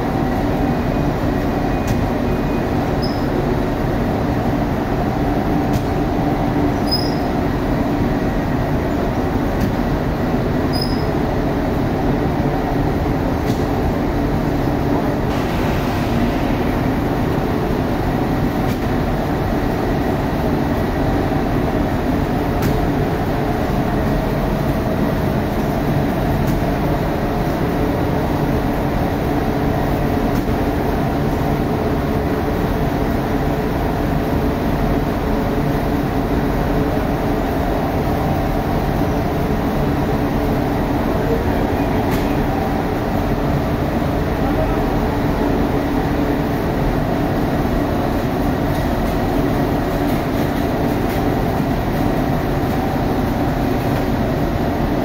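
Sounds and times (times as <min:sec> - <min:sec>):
bakery machinery humming: 0:00.0 - 0:55.0.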